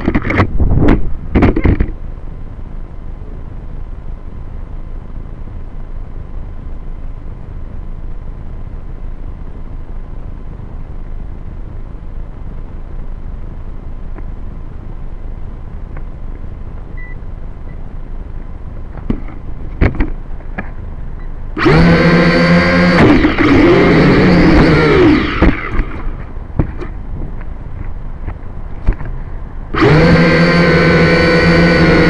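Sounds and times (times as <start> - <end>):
drone motors buzzing whine: 0.0 - 32.0
low steady rumble: 0.0 - 32.0.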